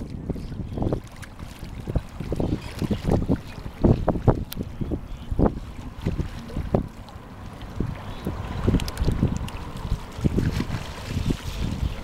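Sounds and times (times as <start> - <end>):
choppy sea water: 0.0 - 12.0
wind buffeting microphone: 0.0 - 12.0.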